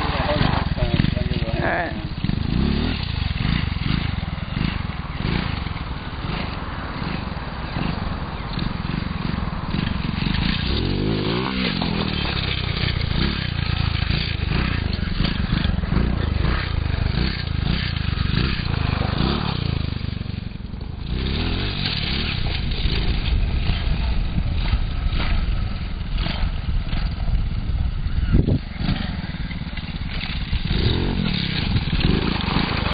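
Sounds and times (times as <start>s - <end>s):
small engine revving: 0.0s - 32.9s.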